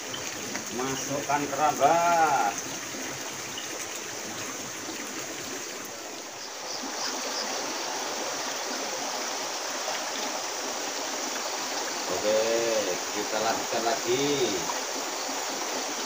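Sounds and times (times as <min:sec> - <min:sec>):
river water running over rocks: 0:00.0 - 0:16.0.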